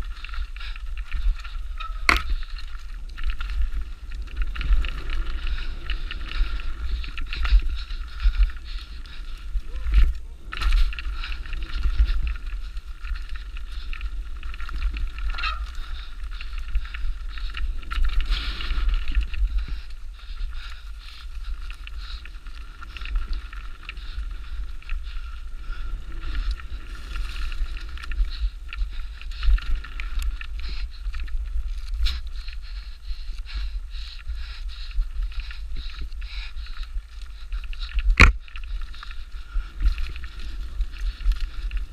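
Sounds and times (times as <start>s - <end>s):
bike tyres on dirt trail: 0.0s - 41.9s
wind rumble on microphone: 0.0s - 41.9s.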